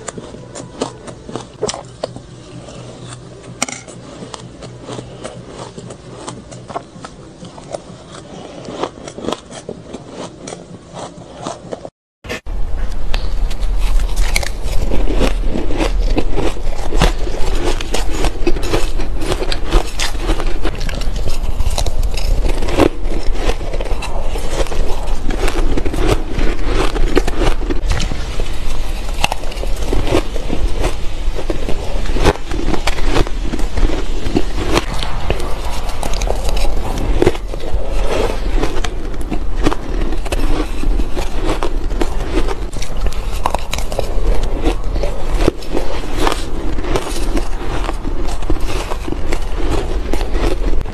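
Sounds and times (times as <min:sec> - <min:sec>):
chewing and crunching ice: 0:00.0 - 0:11.9, 0:12.9 - 0:50.9.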